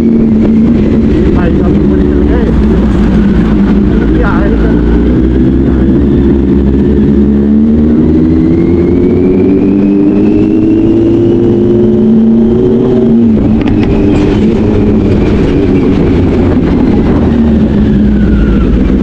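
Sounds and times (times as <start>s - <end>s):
loud low rumble: 0.0s - 19.0s.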